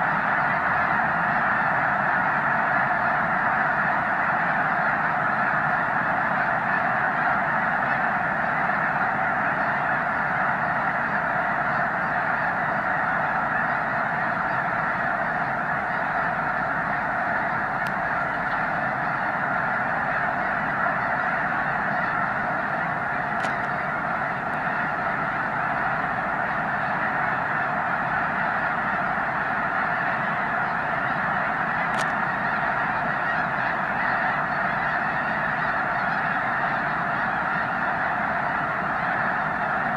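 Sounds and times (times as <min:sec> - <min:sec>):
flock of geese honking: 0:00.0 - 0:39.9.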